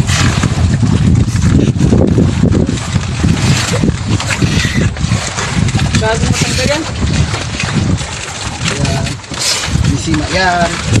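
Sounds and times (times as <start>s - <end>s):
low boat rumble: 0.0s - 11.0s
wind buffeting microphone: 0.0s - 11.0s.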